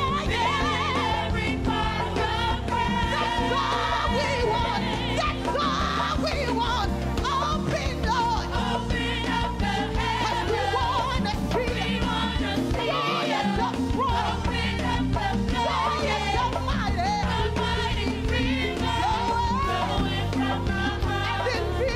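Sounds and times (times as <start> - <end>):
group of singers: 0.0 - 21.9.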